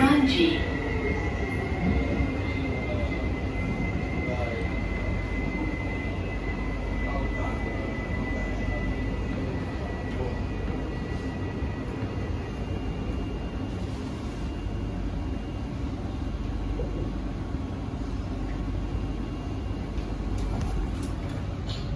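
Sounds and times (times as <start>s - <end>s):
metro train cabin rumble: 0.0s - 21.9s.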